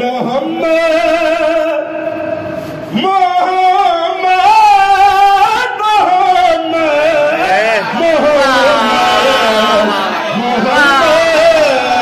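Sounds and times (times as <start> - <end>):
man singing devotional hymn: 0.0 - 2.3, 2.9 - 12.0.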